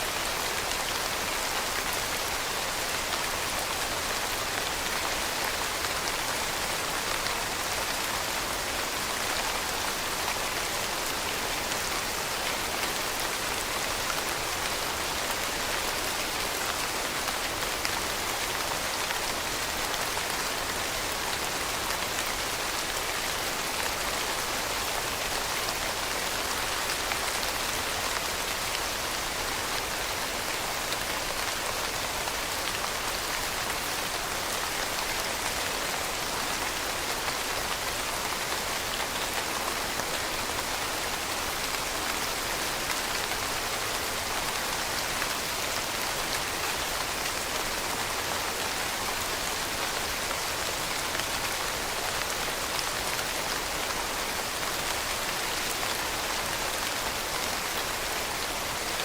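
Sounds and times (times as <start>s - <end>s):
rain falling on a surface: 0.0s - 59.0s.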